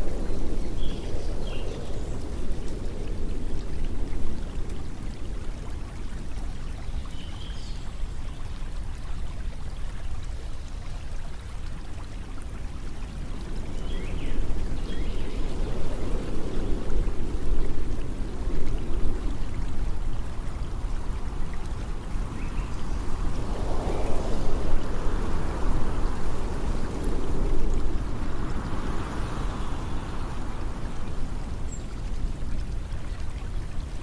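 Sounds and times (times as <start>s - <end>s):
flowing water rushing: 0.0s - 34.0s.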